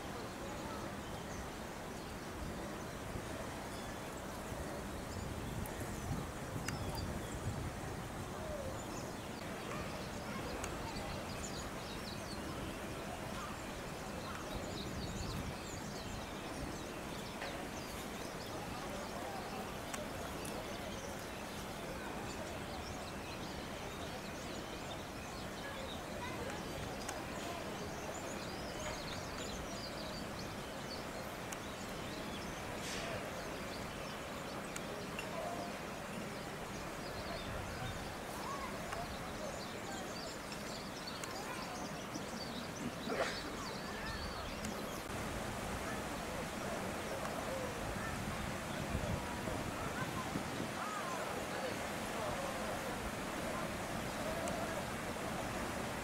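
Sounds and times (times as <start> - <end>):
murmur of voices: 0.0 - 56.0
steady background hiss: 0.0 - 56.0.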